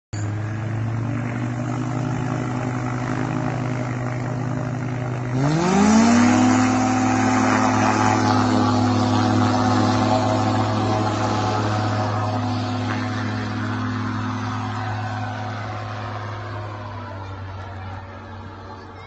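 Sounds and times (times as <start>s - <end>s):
low engine drone: 0.1s - 19.0s
ultralight engine and propeller: 0.1s - 19.0s.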